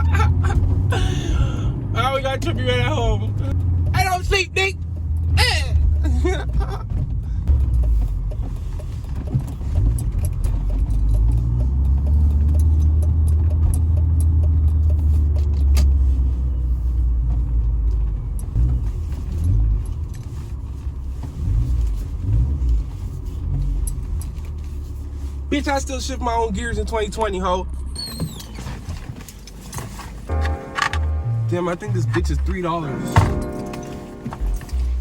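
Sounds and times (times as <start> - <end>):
car engine drone from cabin: 0.0 - 35.0
road noise: 0.0 - 35.0.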